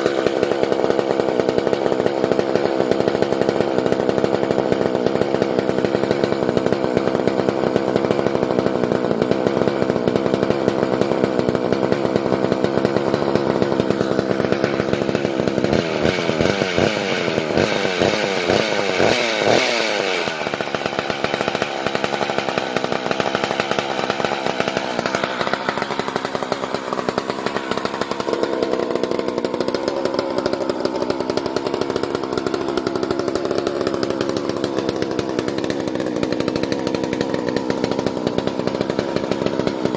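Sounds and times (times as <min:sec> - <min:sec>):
chainsaw engine revving and idling: 0:00.0 - 0:39.9.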